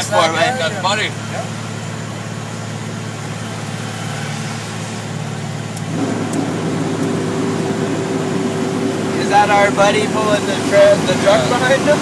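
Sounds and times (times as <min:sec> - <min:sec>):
truck diesel engine pulling uphill: 0:00.0 - 0:12.0.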